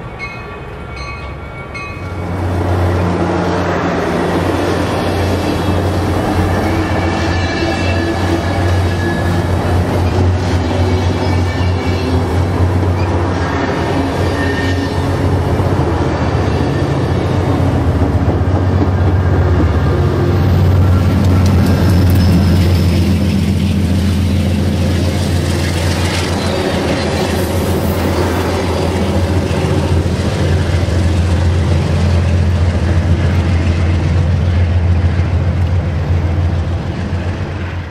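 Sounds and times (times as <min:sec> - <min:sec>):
train wheels running on rails: 0:00.0 - 0:37.9.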